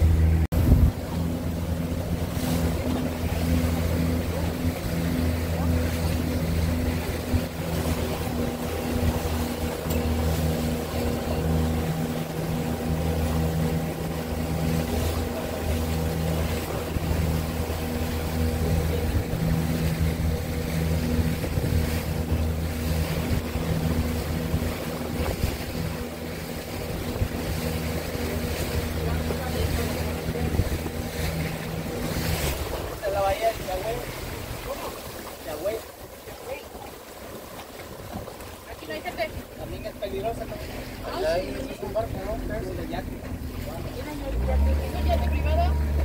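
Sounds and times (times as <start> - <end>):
motorboat engine running: 0.0 - 46.0
rush of wind and water: 0.0 - 46.0.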